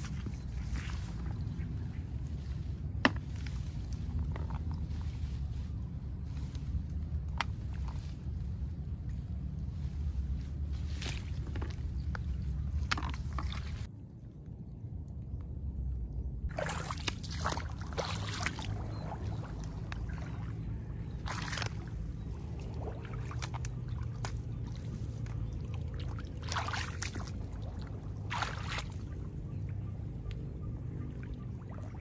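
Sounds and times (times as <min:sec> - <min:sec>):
water splashing and sloshing: 0:00.0 - 0:15.6, 0:16.4 - 0:32.0
steady low rumble: 0:00.0 - 0:32.0.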